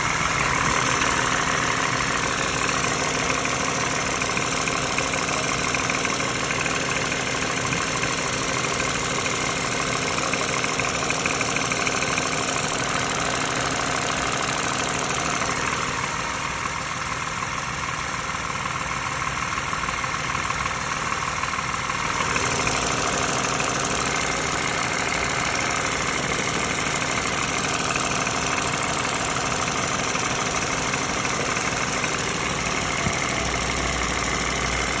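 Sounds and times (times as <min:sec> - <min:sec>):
car engine idling with rattle: 0:00.0 - 0:35.0.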